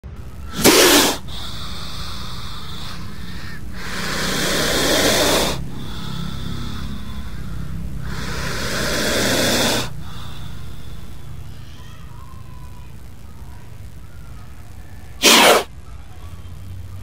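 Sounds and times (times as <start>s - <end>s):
low steady hum: 0.0s - 17.0s
cobra hissing: 0.1s - 15.8s.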